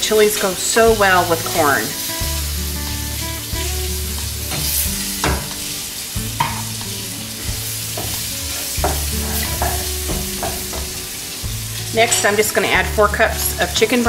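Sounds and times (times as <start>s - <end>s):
vegetables sizzling in pot: 0.0s - 14.0s.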